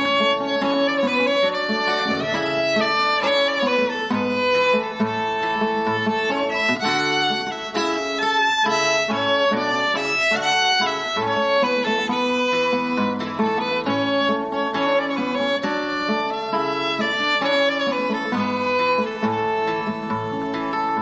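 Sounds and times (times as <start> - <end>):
folk instrumental melody: 0.0 - 21.0.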